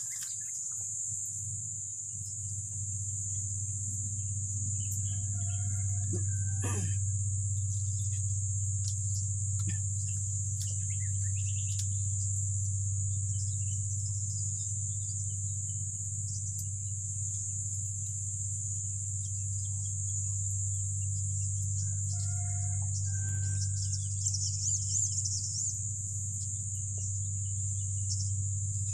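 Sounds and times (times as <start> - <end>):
insects droning: 0.0 - 28.9
steady low hum: 0.0 - 28.9.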